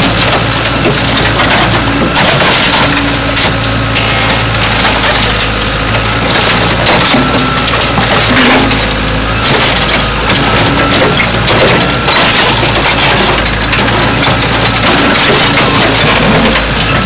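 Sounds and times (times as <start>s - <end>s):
backhoe engine running: 0.0s - 17.0s
sheet metal crunching: 0.0s - 17.0s.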